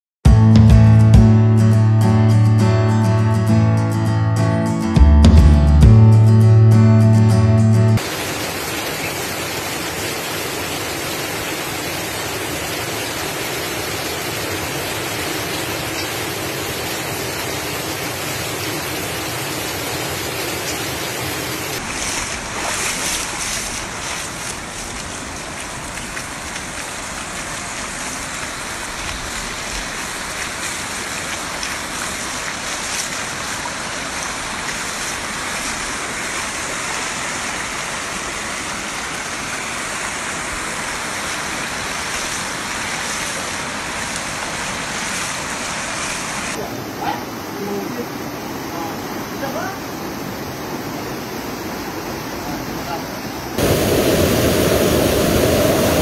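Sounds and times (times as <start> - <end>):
floodwater rushing across road: 8.0 - 56.0
heavy rain pouring: 8.0 - 56.0.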